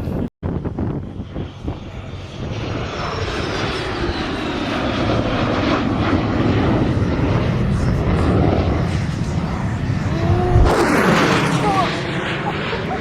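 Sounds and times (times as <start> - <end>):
airplane flying past: 1.0 - 13.0
high engine whine: 1.4 - 13.0.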